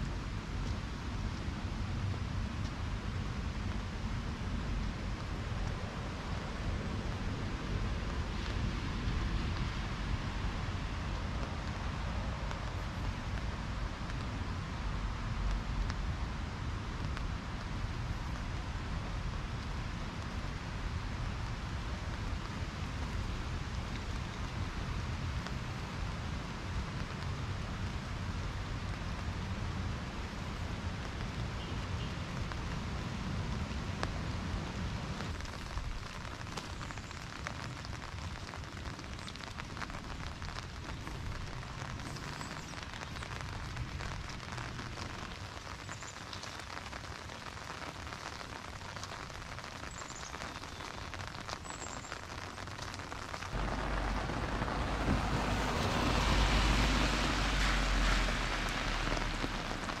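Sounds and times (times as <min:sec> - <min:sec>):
car passing on wet road: 0:00.0 - 0:49.2, 0:51.2 - 1:00.0
rain on wet pavement: 0:00.0 - 1:00.0.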